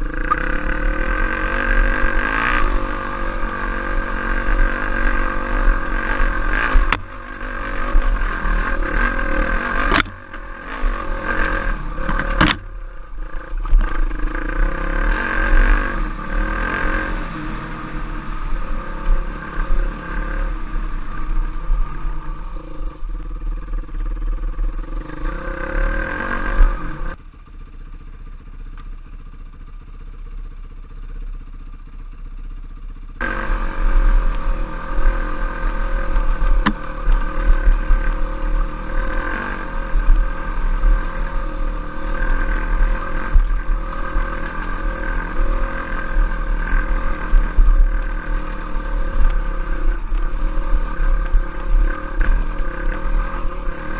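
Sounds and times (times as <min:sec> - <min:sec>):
trail bike engine running: 0:00.0 - 0:53.9.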